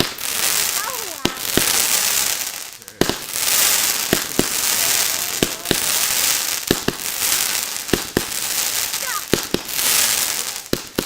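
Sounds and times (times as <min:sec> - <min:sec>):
firework bangs: 0:00.0 - 0:11.0
fireworks fizzing hiss: 0:00.0 - 0:11.0.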